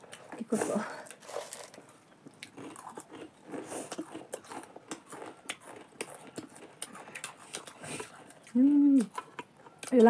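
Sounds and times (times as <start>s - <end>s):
people crunching puffed rice: 0.0s - 10.0s.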